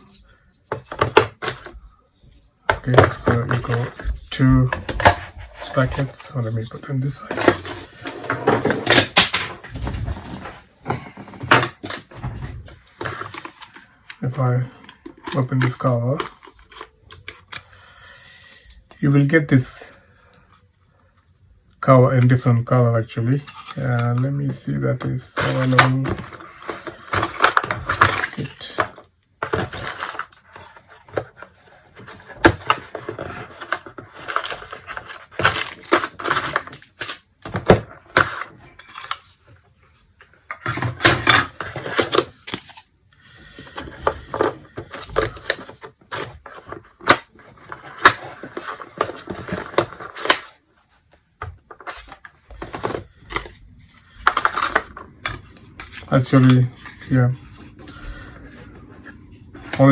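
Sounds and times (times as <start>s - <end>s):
plastic parts clicking and clattering: 0.1s - 1.8s, 2.6s - 17.7s, 23.3s - 59.9s.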